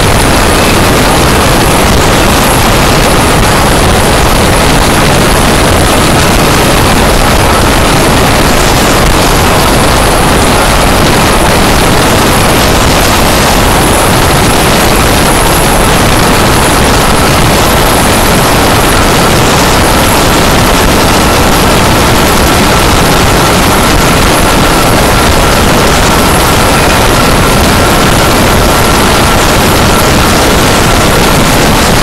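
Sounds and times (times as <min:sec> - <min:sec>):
wind roaring over microphone: 0:00.0 - 0:32.0.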